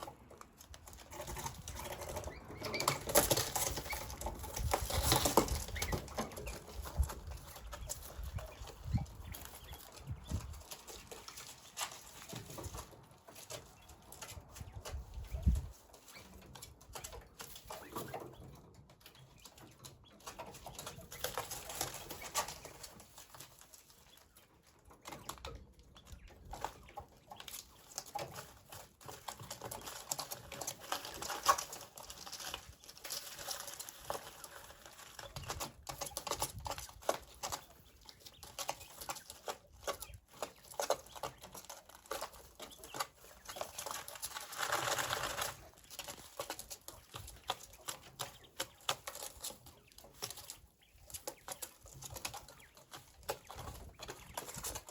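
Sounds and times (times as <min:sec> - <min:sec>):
quail pecking and scratching: 0:00.0 - 0:54.9.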